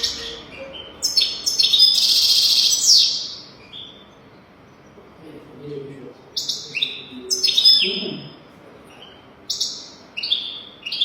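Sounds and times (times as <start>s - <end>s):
bird twittering song: 0.0s - 5.2s, 6.3s - 11.0s.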